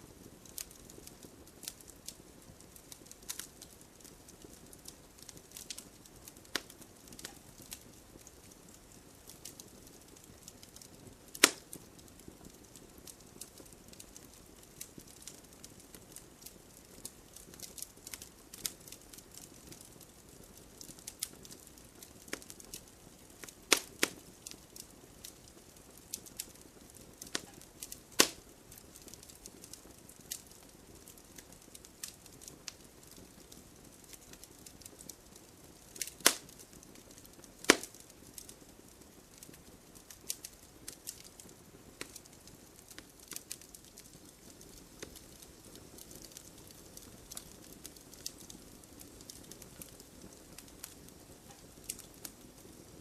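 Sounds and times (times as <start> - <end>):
campfire crackling: 0.0 - 53.0
hiss of burning: 0.0 - 53.0.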